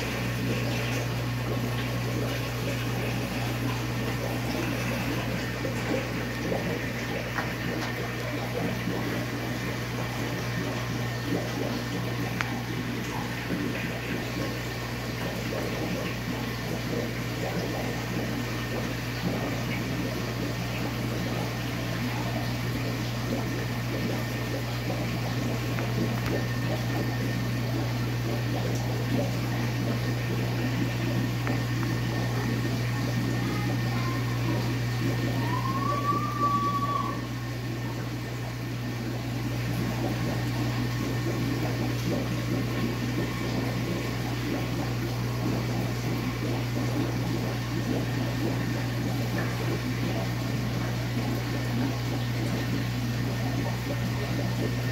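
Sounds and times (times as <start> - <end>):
aquarium pump humming: 0.0 - 54.9
water gurgling and trickling: 0.0 - 54.9.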